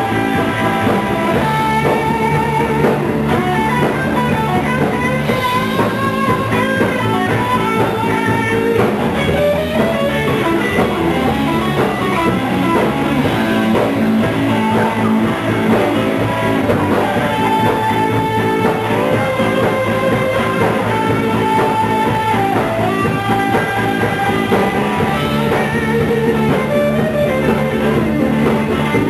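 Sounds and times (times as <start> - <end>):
drum kit: 0.0 - 29.0
electric bass: 0.0 - 29.0
electric lead guitar solo: 0.0 - 29.0.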